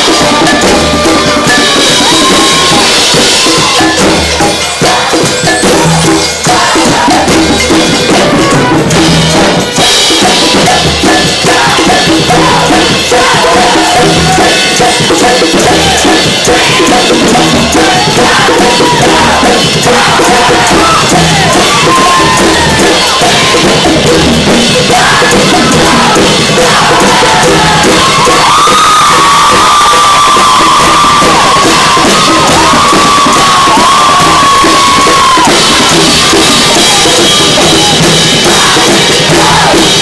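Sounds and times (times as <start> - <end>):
cowbell: 0.0 - 40.0
drum kit beat: 0.0 - 40.0
many voices singing and shouting: 0.0 - 40.0
tambourine: 0.0 - 40.0.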